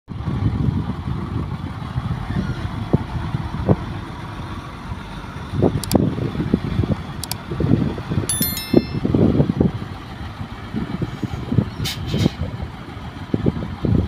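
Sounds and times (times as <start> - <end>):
diesel truck engine rumbling: 0.1 - 8.2, 9.1 - 14.0.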